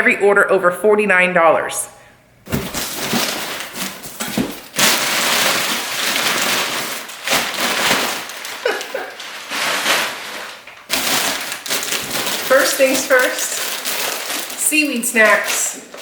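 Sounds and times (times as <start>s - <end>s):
packing material rustling: 2.5s - 16.0s.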